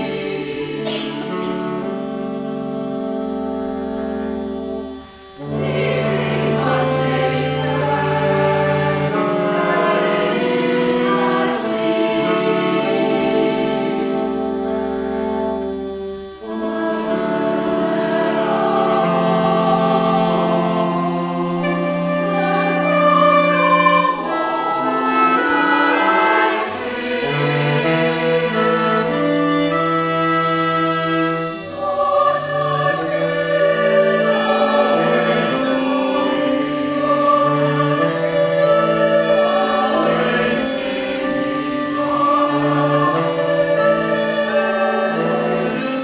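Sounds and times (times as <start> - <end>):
choir singing sustained chords: 0.0 - 46.0
saxophones playing: 0.0 - 46.0.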